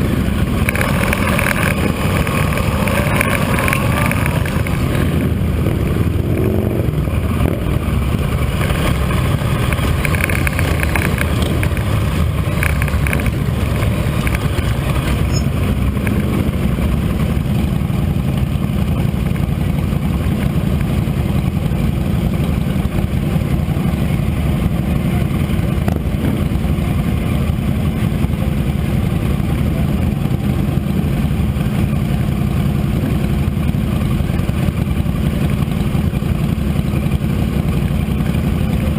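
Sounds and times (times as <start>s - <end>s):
motorcycle engine rumbling: 0.0s - 38.9s
road noise: 0.0s - 38.9s.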